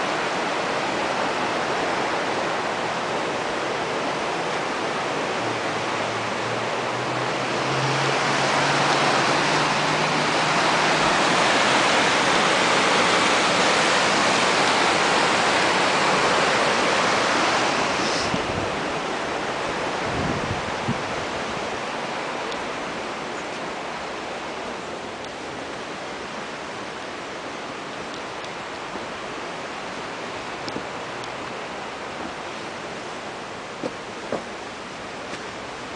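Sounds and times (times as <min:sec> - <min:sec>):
river rushing over rapids: 0:00.0 - 0:35.9.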